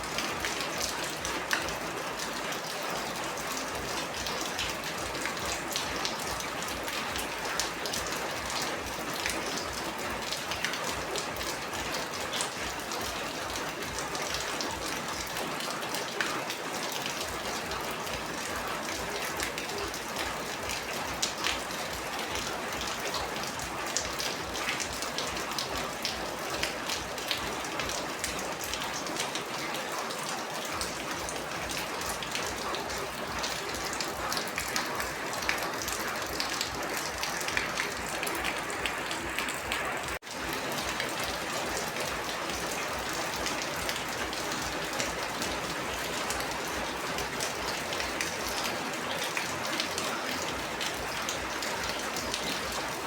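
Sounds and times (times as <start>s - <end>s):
raindrops hitting sharply: 0.0s - 53.0s.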